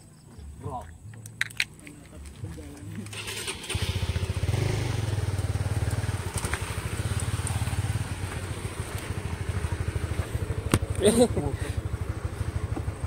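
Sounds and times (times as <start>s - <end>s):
motorcycle engine idling: 1.8s - 13.0s.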